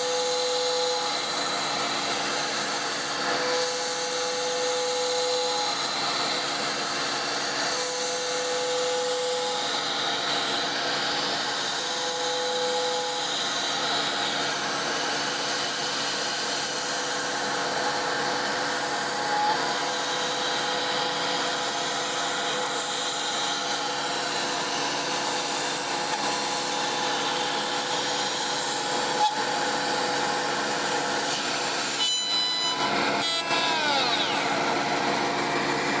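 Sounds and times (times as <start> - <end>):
router spindle machining whine: 0.0 - 36.0
vacuum pump: 0.0 - 36.0.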